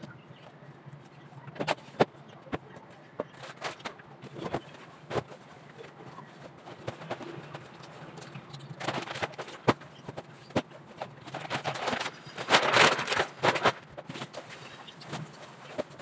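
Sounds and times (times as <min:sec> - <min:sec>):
plastic bag rustling and crinkling: 0:03.2 - 0:16.0.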